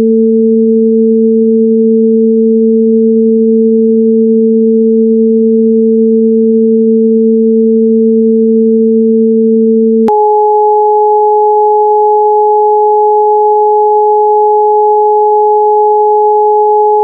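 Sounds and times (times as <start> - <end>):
synthesized sine tones: 0.0 - 17.0.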